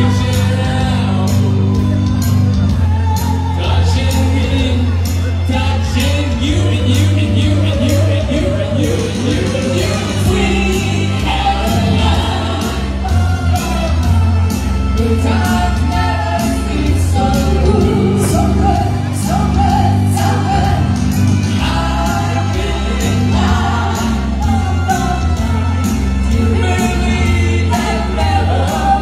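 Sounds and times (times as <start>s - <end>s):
pop song over sound system: 0.0s - 29.0s
steady bass beat: 0.0s - 29.0s
voices singing together: 0.0s - 29.0s.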